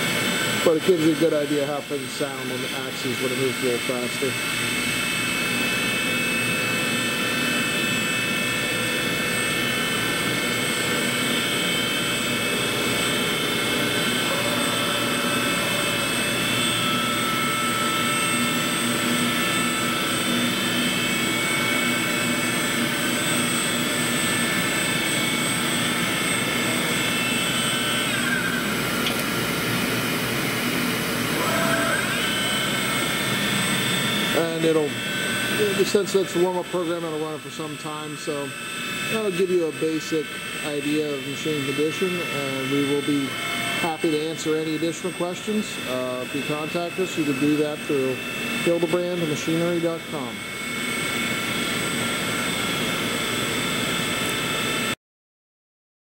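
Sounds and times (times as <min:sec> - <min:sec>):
grinding machine whine: 0:00.0 - 0:55.0.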